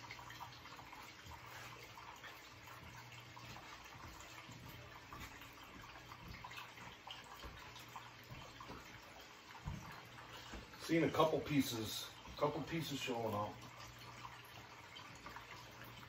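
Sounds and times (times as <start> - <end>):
water running into a tub: 0.0 - 16.0.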